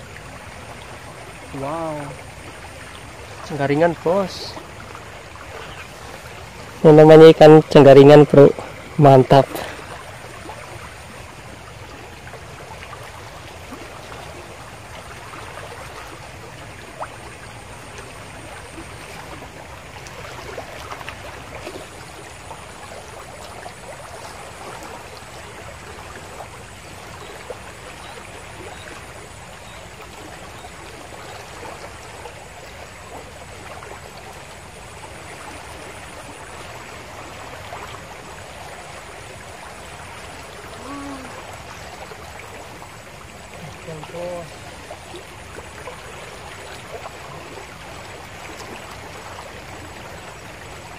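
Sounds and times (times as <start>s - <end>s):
river rushing: 0.0s - 50.9s.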